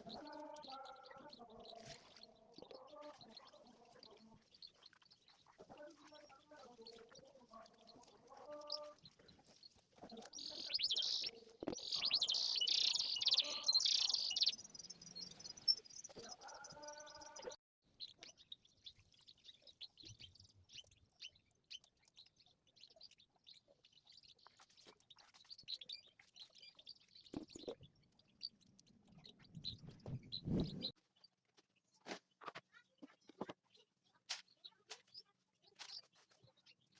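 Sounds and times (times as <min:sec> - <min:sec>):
canaries trilling chirps: 0:00.0 - 0:31.3, 0:32.9 - 0:36.9
faint chirps and ticks: 0:00.0 - 0:36.9.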